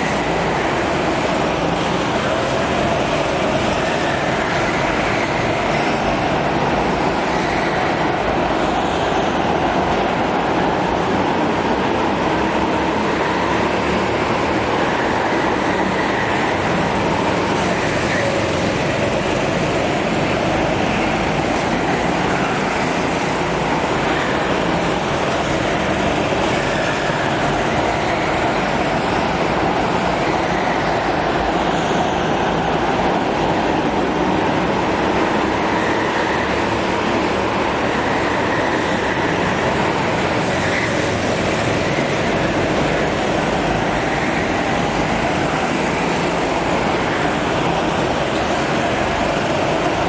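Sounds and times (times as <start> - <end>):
go-kart engines droning: 0.0 - 50.0.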